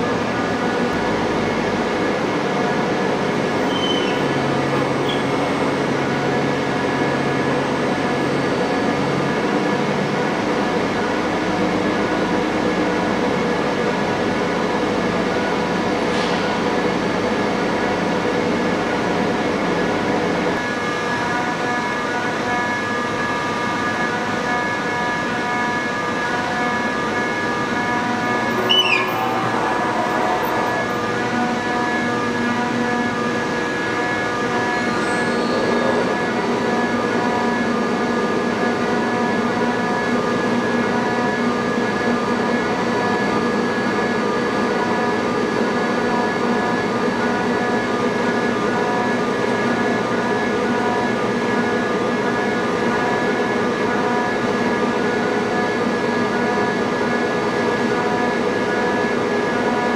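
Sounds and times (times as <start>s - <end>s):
milling machine humming and whining: 0.0s - 59.9s.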